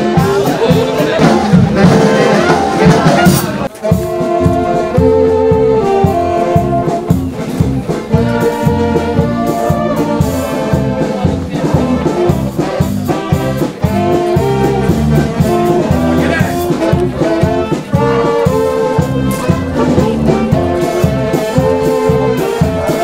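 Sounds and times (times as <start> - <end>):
brass music: 0.0 - 23.0
steady low beat: 0.0 - 23.0.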